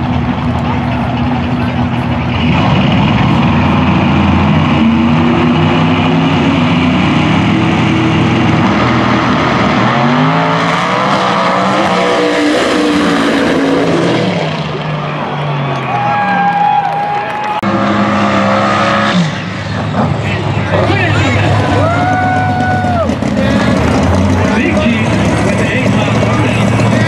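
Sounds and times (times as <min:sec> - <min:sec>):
drag car engines accelerating: 0:00.0 - 0:27.0.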